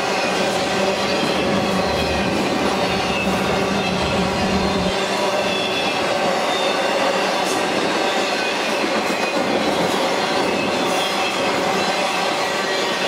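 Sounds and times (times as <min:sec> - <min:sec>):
freight train wheels clattering on rails: 0:00.0 - 0:13.0
faint high wheel squeal: 0:00.1 - 0:13.0.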